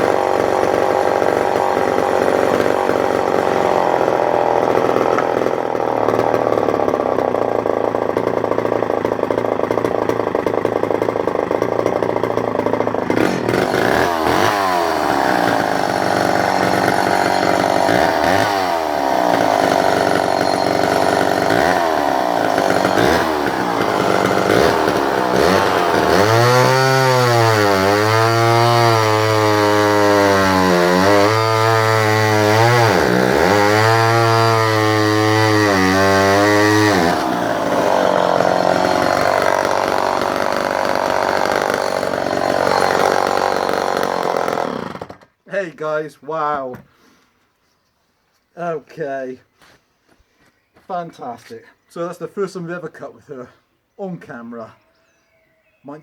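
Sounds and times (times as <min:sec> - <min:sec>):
chainsaw revving: 0:00.0 - 0:45.4.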